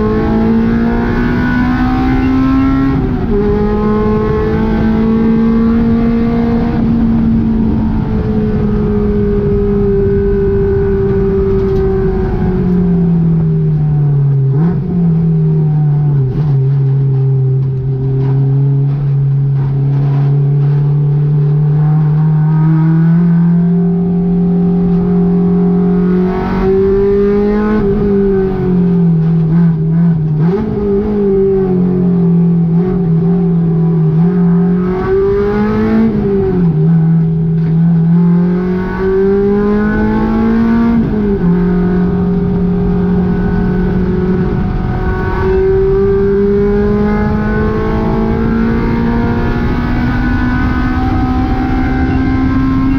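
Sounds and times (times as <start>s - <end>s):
car engine revving under load: 0.0s - 52.9s.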